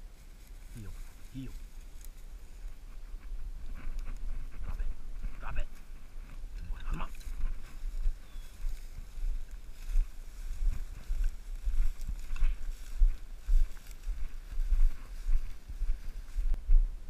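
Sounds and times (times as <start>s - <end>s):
grass brushing: 0.0s - 16.6s
wind noise on camera: 2.7s - 17.0s.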